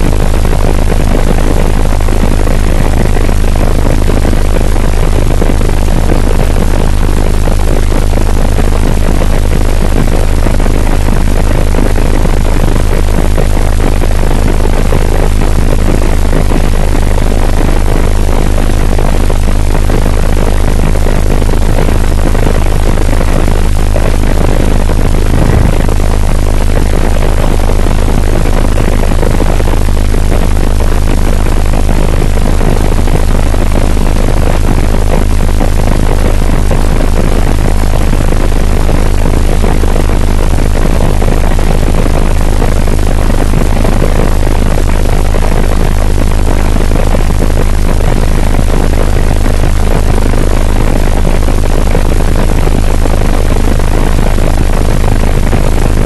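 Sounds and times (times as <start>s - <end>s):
helicopter drone from cabin: 0.0s - 56.0s.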